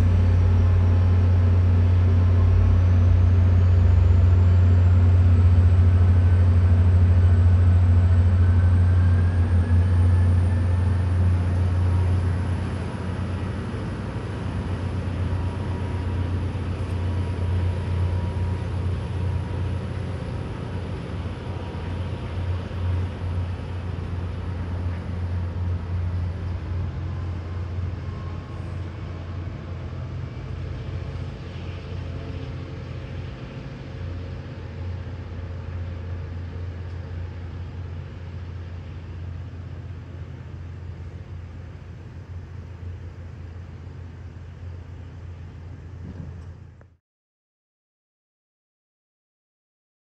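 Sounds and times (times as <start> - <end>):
rail noise: 0.0 - 46.9
diesel train engine rumble: 0.0 - 47.0.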